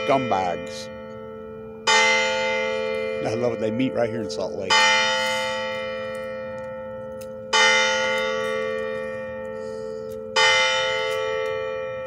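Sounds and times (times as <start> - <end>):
clock tower bell tolling: 0.0 - 12.0.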